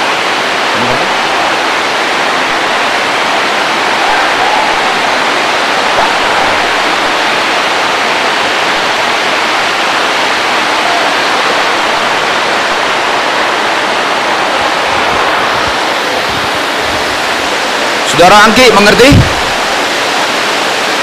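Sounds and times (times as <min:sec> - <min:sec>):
steady loud rushing noise: 0:00.0 - 0:21.0.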